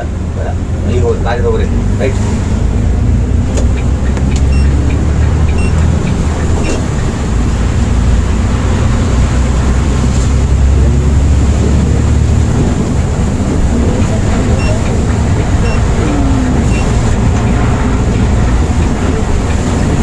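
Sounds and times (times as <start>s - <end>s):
coach engine and road rumble: 0.0s - 20.0s.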